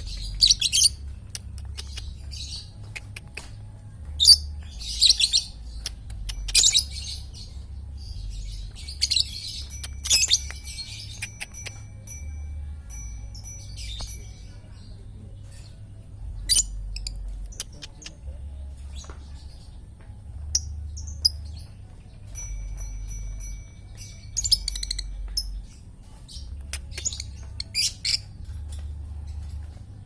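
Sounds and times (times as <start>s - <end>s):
lovebirds chirping: 0.0s - 30.0s
low steady hum: 0.0s - 30.0s.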